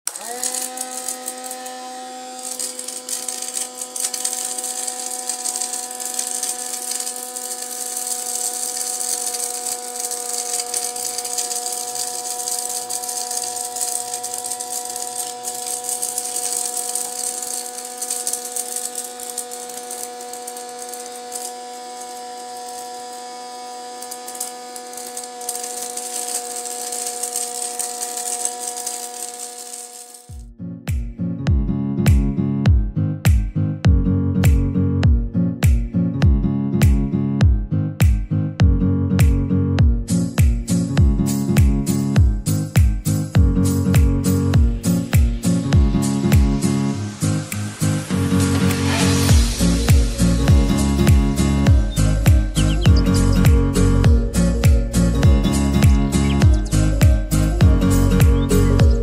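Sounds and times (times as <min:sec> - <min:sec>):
small vacuum motor running: 0:00.0 - 0:30.4, 0:40.3 - 0:59.0.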